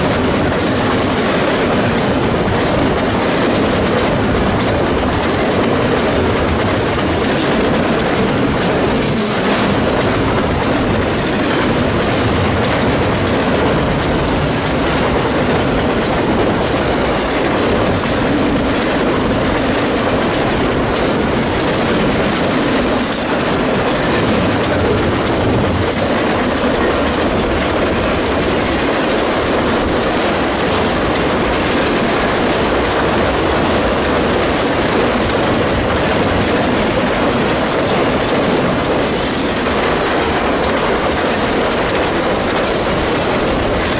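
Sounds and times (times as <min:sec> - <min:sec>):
freight train rolling past: 0:00.0 - 0:43.9
wheels clicking over rail joints: 0:00.0 - 0:43.9.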